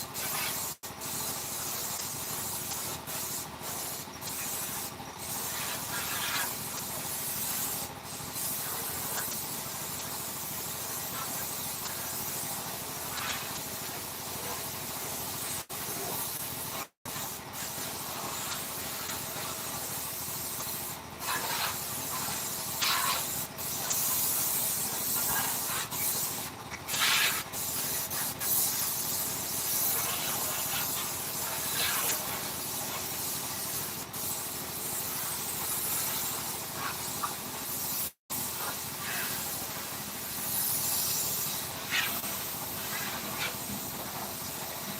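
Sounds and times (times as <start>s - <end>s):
steady hissing noise: 0.0s - 44.9s.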